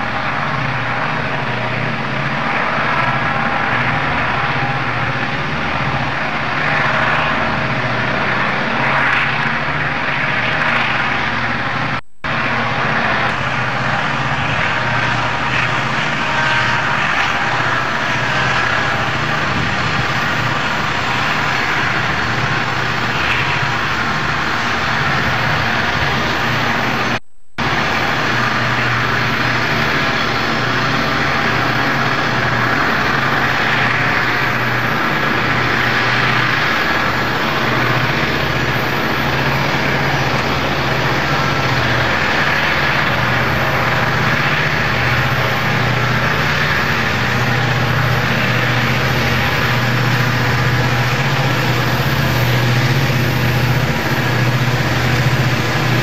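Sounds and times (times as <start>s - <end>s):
heavy diesel locomotive drone: 0.0s - 56.0s.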